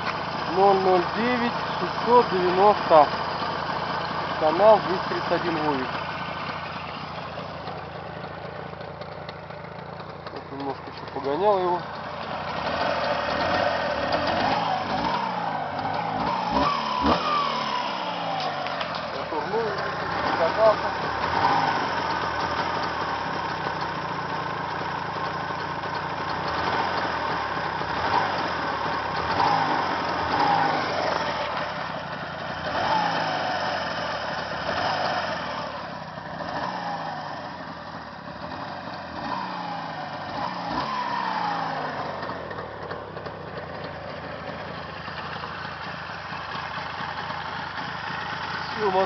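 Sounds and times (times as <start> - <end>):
engine idling and revving: 0.0 - 49.0.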